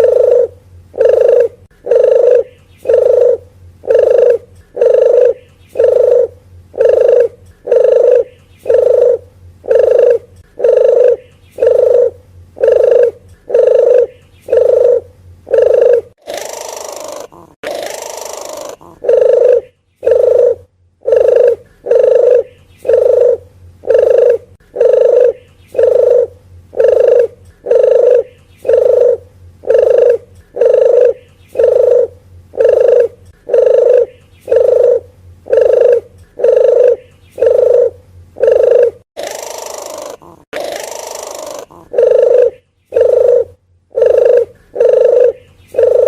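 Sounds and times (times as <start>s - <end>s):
dove cooing: 0.0s - 46.0s
rough hissy bird call: 0.0s - 46.0s.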